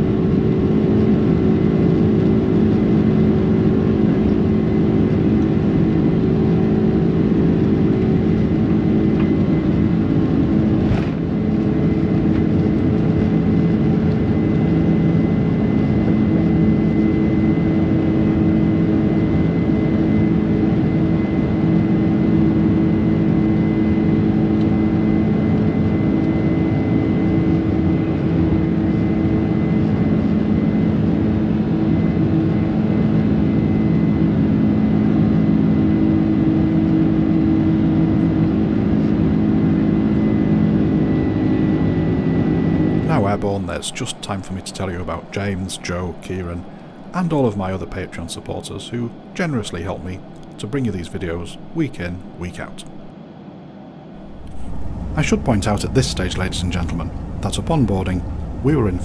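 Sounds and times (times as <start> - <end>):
faint high engine whine: 0.0 - 59.0
jet engines rumbling: 0.0 - 59.0.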